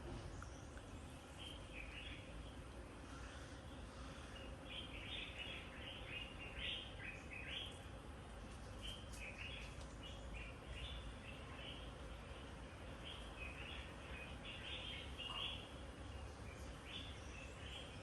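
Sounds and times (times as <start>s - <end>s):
birds chirping: 0.0s - 8.1s, 8.7s - 18.0s.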